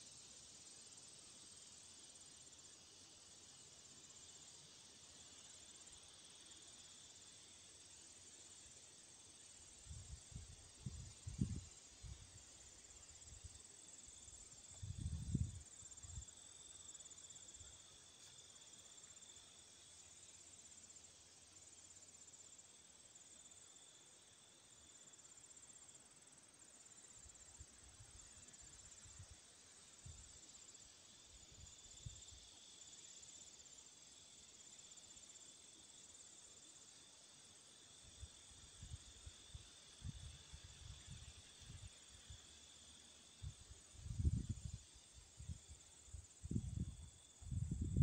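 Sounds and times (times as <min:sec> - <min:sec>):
insects chirping and trilling: 0:00.0 - 0:48.0.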